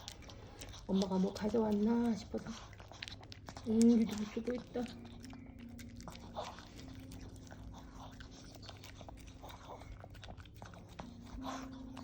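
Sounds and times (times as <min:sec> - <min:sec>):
dog licking and chewing: 0:00.0 - 0:12.0.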